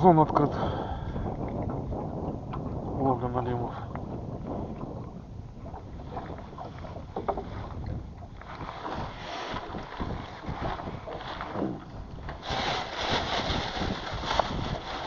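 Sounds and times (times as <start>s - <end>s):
water lapping around a boat: 0.0s - 15.0s.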